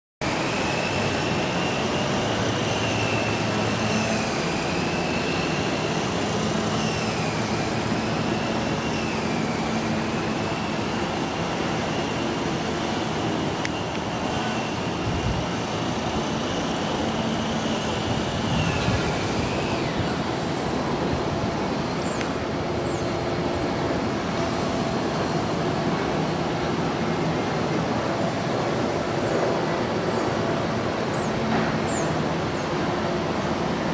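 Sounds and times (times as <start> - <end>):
high whine: 0.2 - 33.9.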